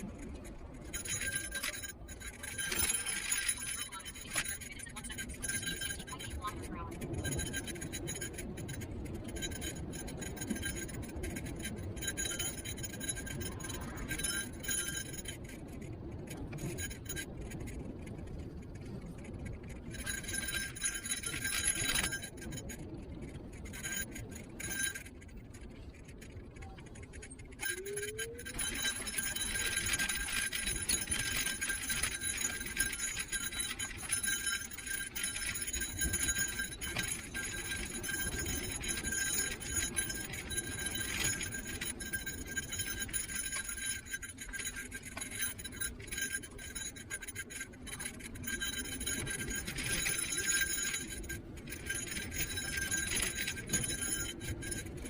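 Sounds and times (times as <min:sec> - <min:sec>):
scooter jingling rattle: 0:00.0 - 0:55.0.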